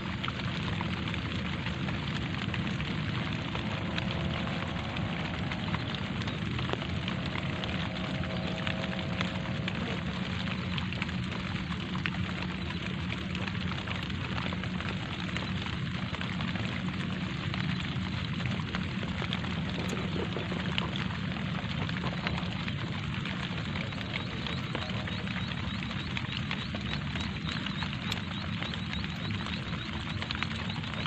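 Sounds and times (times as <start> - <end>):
light rain falling: 0.0 - 31.0.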